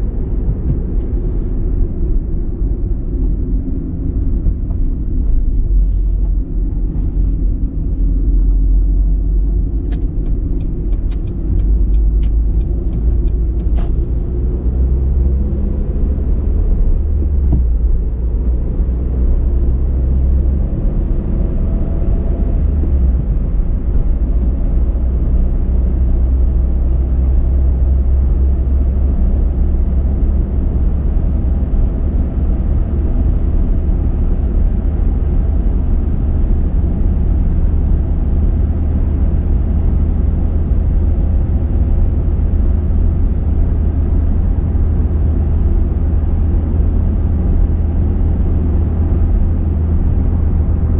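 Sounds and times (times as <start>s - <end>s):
car driving road noise: 0.0s - 50.9s.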